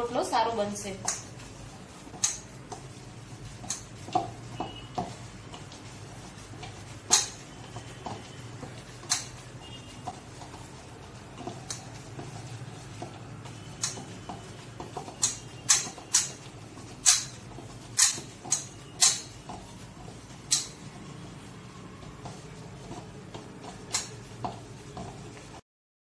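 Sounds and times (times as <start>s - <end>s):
dough slapping against steel bowl: 0.0s - 25.6s
hands kneading dough squelching: 0.0s - 25.6s.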